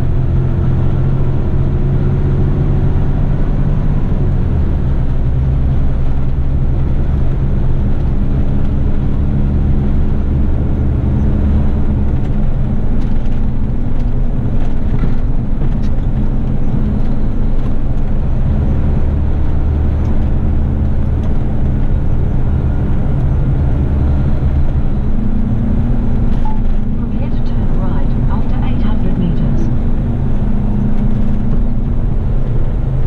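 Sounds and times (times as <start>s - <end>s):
road noise: 0.0s - 33.0s
truck diesel engine drone: 0.0s - 33.0s.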